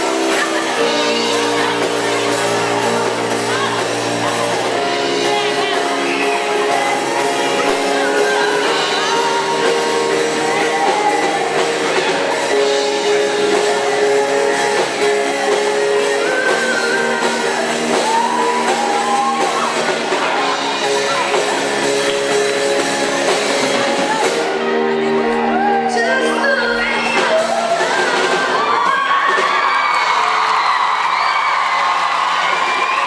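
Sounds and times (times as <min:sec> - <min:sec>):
person singing: 0:00.0 - 0:29.3
guitar: 0:00.0 - 0:30.1.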